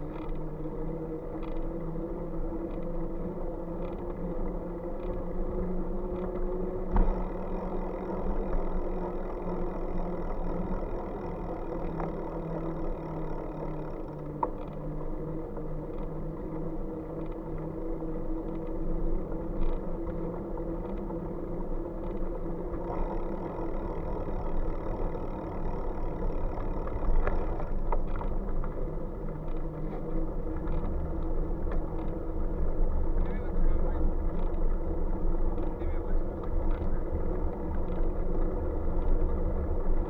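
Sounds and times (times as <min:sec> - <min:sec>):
faint ticks: 0:00.0 - 0:40.0
motorcycle riding rumble: 0:00.0 - 0:40.0.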